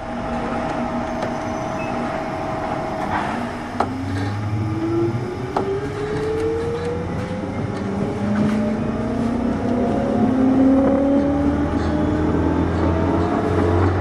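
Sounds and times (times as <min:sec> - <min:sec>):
electric train motor whine: 0:00.0 - 0:14.0
train hum: 0:00.0 - 0:14.0.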